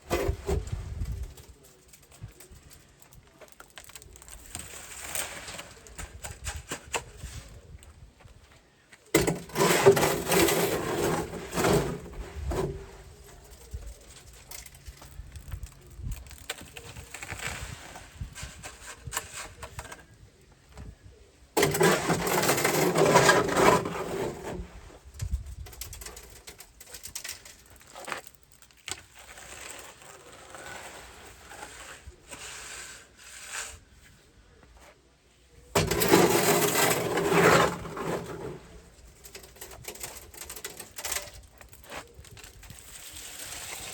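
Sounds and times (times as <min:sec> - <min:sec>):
scraping and shovelling concrete: 0:00.0 - 0:35.0, 0:35.6 - 0:43.9.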